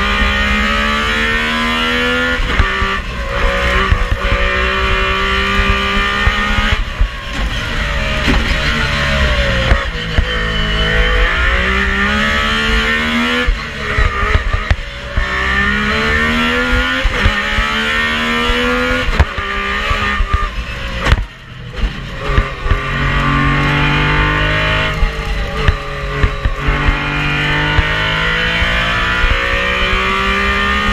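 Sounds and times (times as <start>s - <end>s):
rally car engine revving: 0.0s - 30.9s.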